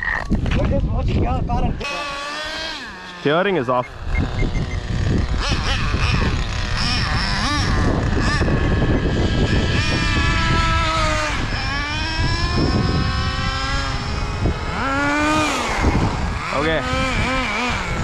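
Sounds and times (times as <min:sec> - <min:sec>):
small rc car engine revving: 0:01.7 - 0:18.0.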